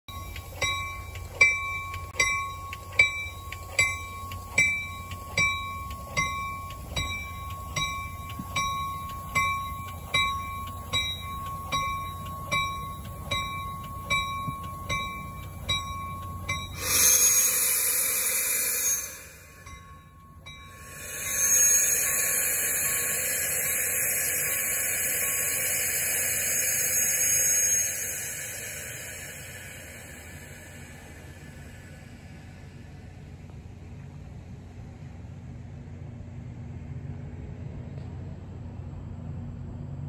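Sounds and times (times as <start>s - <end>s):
railroad bell striking: 0.1s - 32.6s
air brakes hissing: 0.1s - 34.2s
train rumbling: 0.1s - 40.0s.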